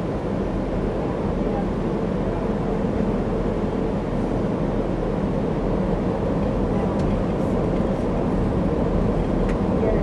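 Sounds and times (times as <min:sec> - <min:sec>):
passenger train rumbling: 0:00.0 - 0:10.0.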